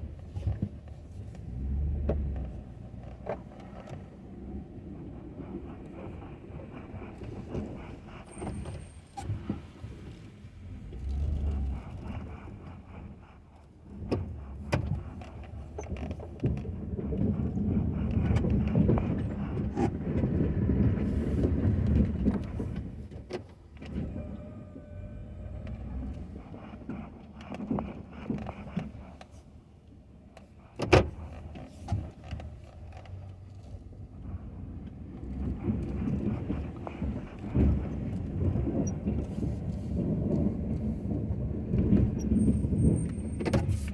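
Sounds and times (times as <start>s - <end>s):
truck engine rumble: 0.0s - 43.9s.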